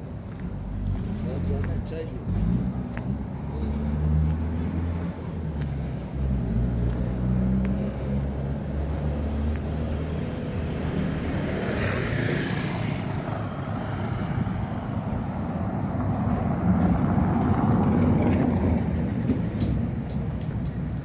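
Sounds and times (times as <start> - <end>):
passing traffic: 0.0 - 21.0
vehicle engine humming: 0.0 - 21.0.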